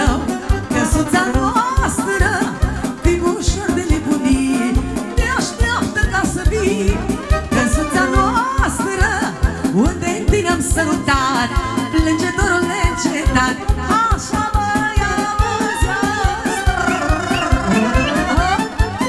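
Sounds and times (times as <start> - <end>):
accordion chords: 0.0 - 19.0
quick steady beat: 0.0 - 19.0
violin playing fast folk tune: 0.0 - 19.0.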